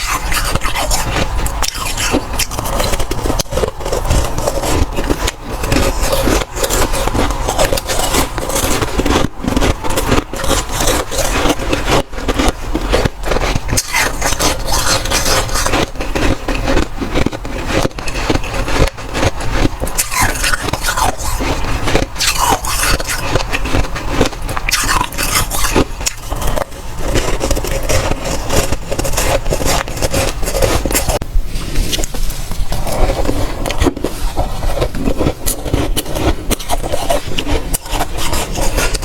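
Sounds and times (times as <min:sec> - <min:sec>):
crunching chewing of frost: 0:00.0 - 0:39.0.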